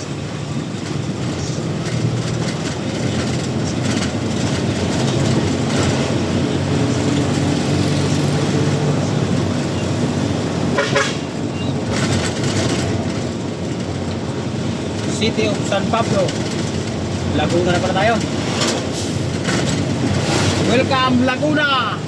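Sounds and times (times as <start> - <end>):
truck engine running: 0.0 - 22.0
tyre and road noise: 0.0 - 22.0.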